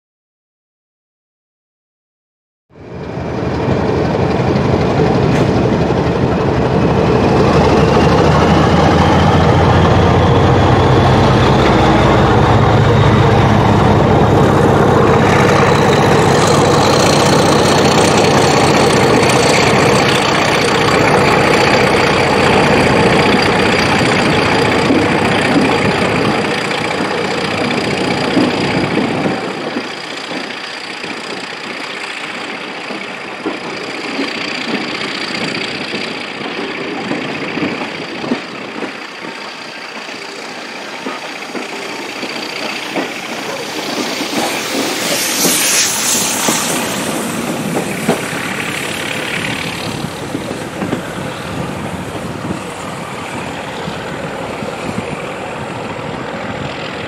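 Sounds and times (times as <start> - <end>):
diesel locomotive engine at full power: 2.7 - 57.0.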